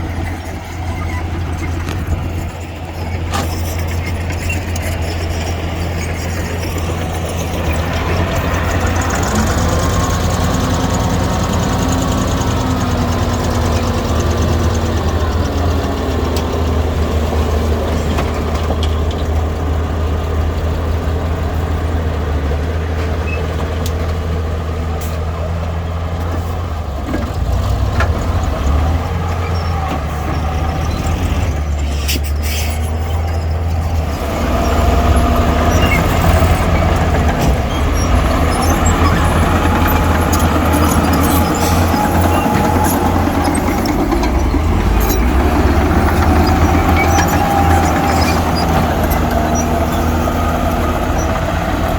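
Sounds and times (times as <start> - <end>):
diesel earthmoving machine running: 0.0 - 51.9.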